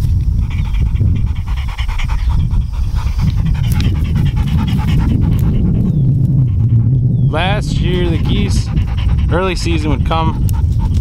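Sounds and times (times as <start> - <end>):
dog panting: 0.0 - 11.0
low rumble: 0.0 - 11.0.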